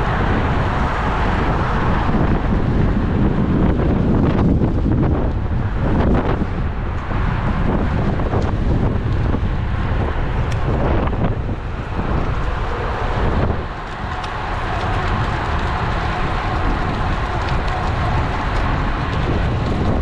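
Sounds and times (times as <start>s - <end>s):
road and traffic noise: 0.0s - 20.0s
wind buffeting microphone: 0.0s - 20.0s.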